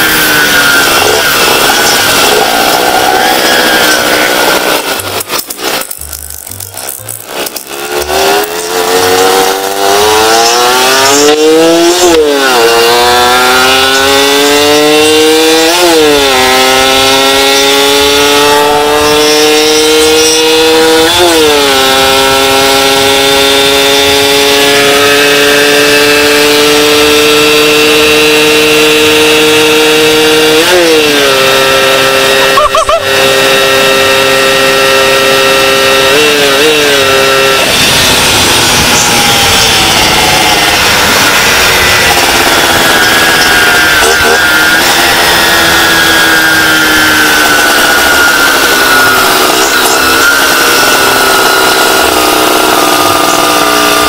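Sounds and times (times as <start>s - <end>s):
motorcycle accelerating through gears: 0.0s - 54.0s.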